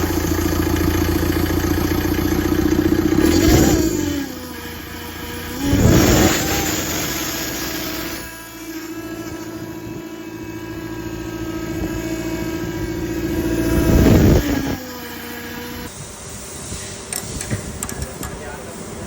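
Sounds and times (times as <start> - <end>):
car engine running: 0.0 - 15.8.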